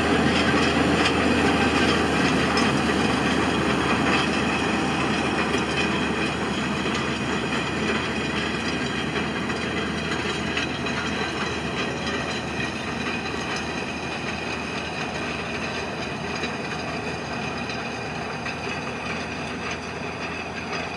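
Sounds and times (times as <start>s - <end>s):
roller rolling over soil: 0.0s - 20.9s
tractor engine under load: 0.0s - 20.9s.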